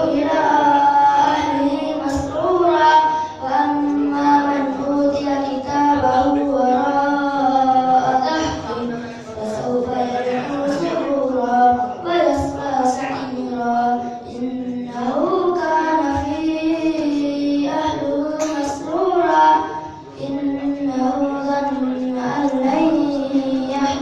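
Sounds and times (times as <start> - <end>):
child reciting melodically: 0.0 - 24.0.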